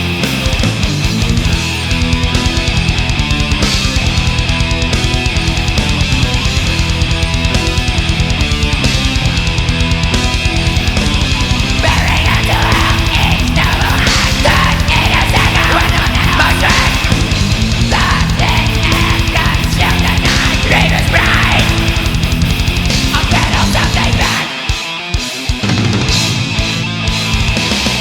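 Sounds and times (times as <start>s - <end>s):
distorted electric guitar riffing: 0.0s - 28.0s.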